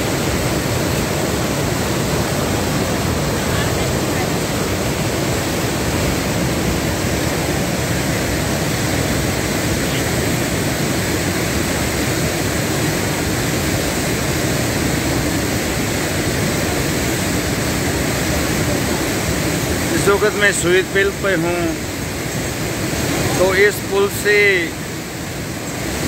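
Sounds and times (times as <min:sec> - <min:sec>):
floodwater rushing in stream: 0:00.0 - 0:26.0.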